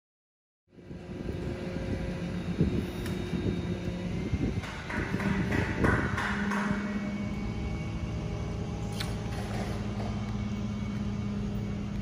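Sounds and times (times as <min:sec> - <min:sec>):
low mechanical hum: 0:00.7 - 0:12.0.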